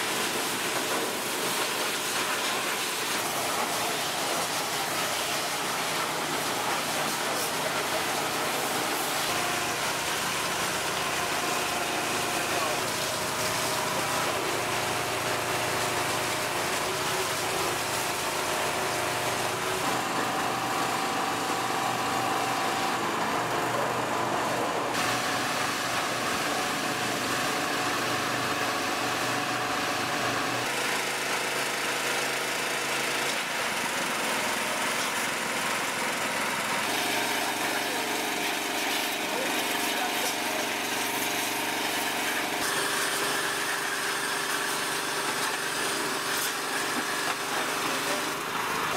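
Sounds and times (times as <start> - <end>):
water jet spraying: 0.0 - 23.0, 24.9 - 32.2, 33.0 - 48.9
engine running: 0.0 - 48.9.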